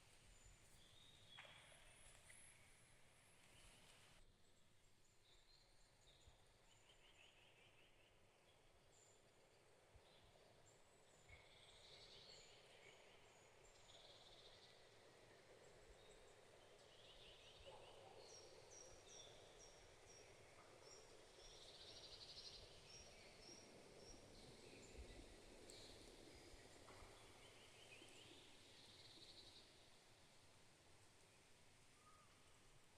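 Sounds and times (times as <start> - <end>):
soft background hiss: 0.0 - 32.9.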